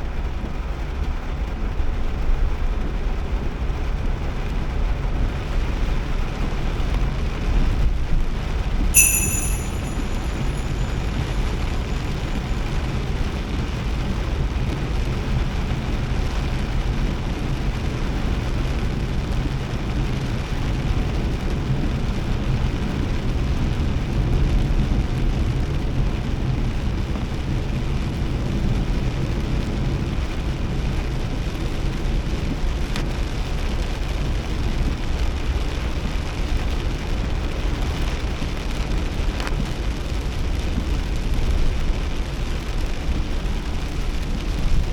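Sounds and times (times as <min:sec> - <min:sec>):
heavy rain on a car: 0:00.0 - 0:08.9, 0:11.6 - 0:44.9.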